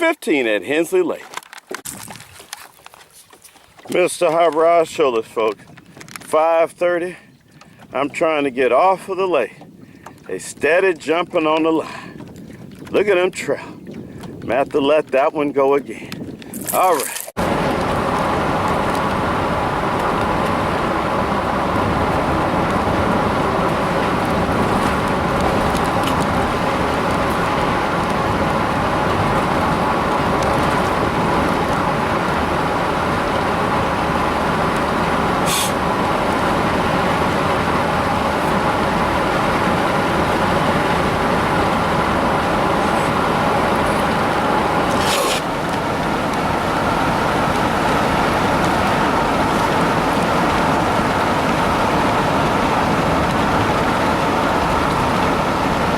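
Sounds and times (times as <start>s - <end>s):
wind and water rushing: 1.8s - 55.9s
boat motor whining: 3.8s - 55.9s.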